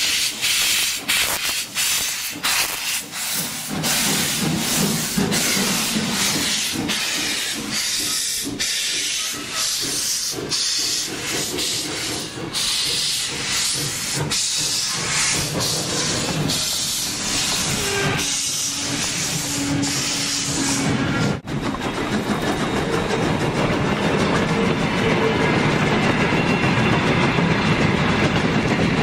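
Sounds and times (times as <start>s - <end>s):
freight cars rumbling on rails: 0.0s - 29.0s
steam locomotive hissing: 0.0s - 29.0s.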